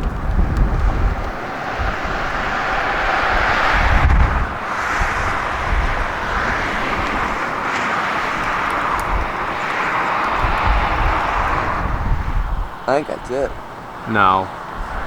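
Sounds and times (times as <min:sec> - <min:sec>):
gusty storm wind: 0:00.0 - 0:15.0
low rumbles: 0:00.0 - 0:15.0
wind buffeting microphone: 0:00.0 - 0:15.0.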